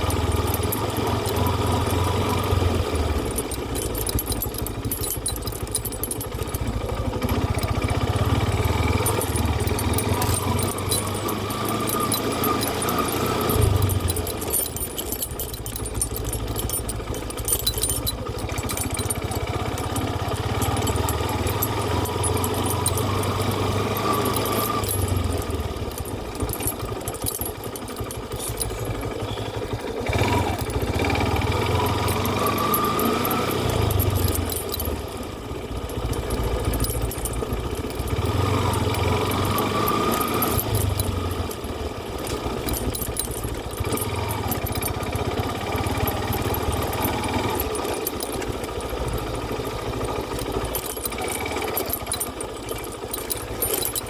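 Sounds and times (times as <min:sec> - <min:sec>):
engine rumbling: 0:00.0 - 0:54.0.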